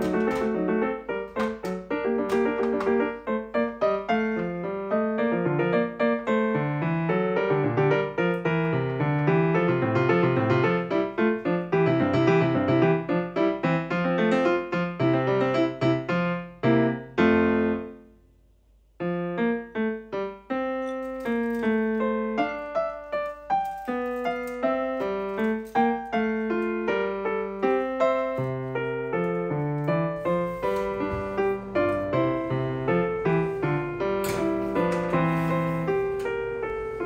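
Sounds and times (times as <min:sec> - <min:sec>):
piano music: 0:00.0 - 0:18.3, 0:19.0 - 0:37.0.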